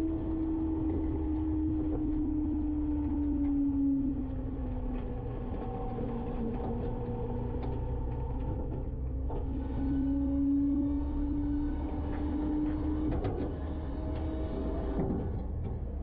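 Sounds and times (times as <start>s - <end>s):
hydraulics whining: 0.0s - 16.0s.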